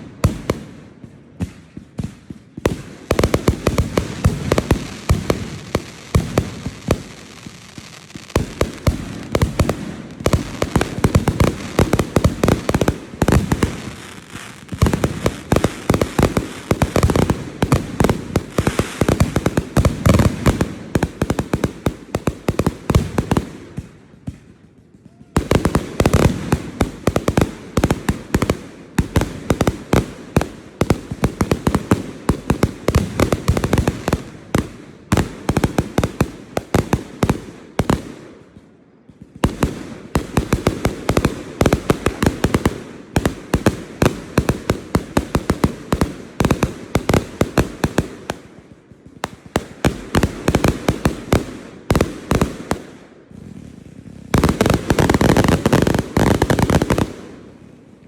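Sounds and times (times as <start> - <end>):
fireworks booms and crackling bangs: 0.0 - 58.0.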